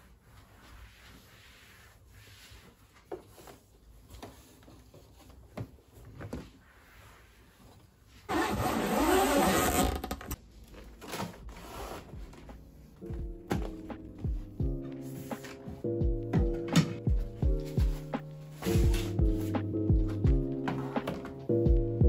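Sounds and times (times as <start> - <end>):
cloth wiping a desk: 0.0 - 9.8, 11.6 - 15.9, 17.3 - 21.4.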